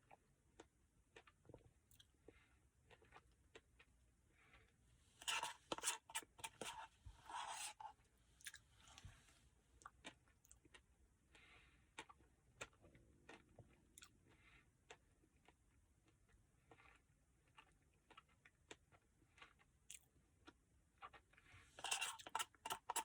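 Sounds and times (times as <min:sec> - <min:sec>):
person chewing: 0:00.0 - 0:03.9, 0:04.5 - 0:09.0, 0:12.0 - 0:23.0.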